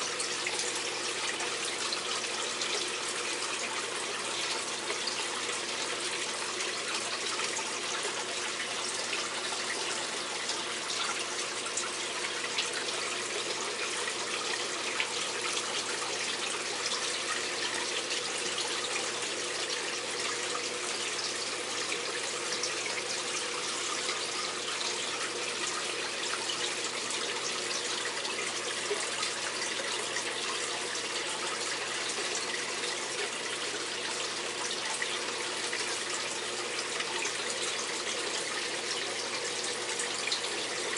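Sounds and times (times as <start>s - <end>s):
faint steady hum: 0.0s - 40.9s
running water rushing: 0.0s - 40.9s.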